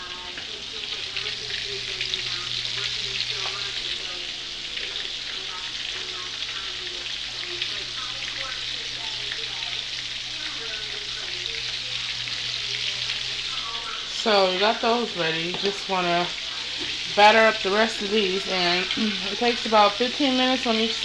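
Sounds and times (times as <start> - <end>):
chicken deep-frying in grease: 0.0 - 21.0.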